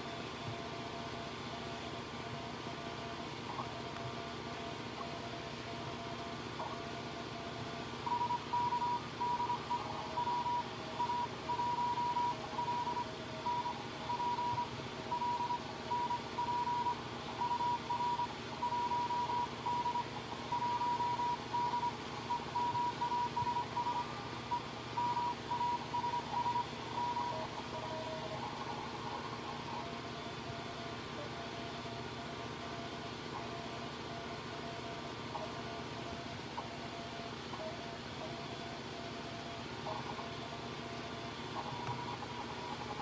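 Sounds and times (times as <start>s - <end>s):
faint lower morse signal: 0.0s - 43.0s
morse code tone: 5.0s - 43.0s.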